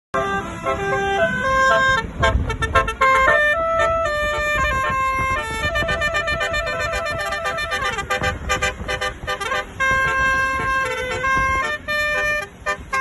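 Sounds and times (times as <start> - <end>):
multi-tone bus horn melody: 0.1 - 13.0.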